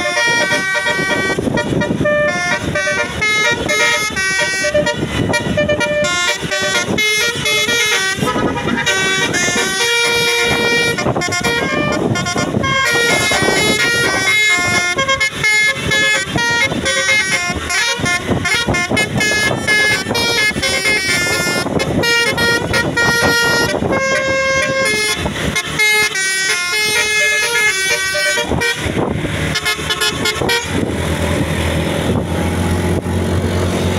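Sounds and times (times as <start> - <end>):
musical air horn tune: 0.0 - 30.9
bus engine running: 0.0 - 33.9.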